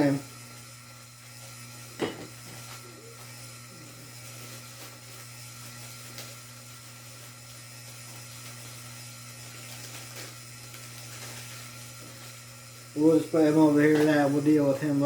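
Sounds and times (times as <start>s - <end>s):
ceiling fan humming and whirring: 0.0s - 15.0s.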